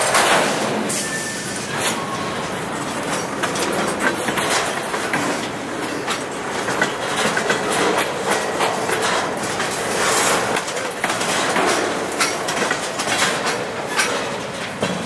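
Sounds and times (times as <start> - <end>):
train wheels clattering over rail: 0.0 - 15.0.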